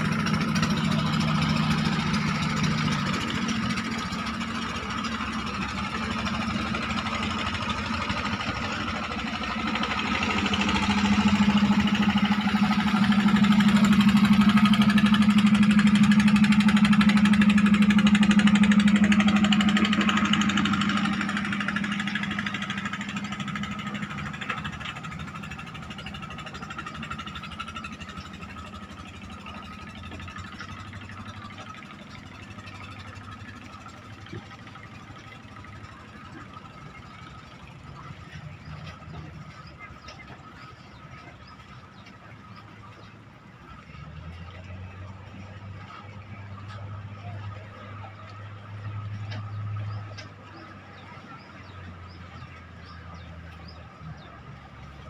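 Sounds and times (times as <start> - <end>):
motorboat engine passing: 0.0 - 55.0.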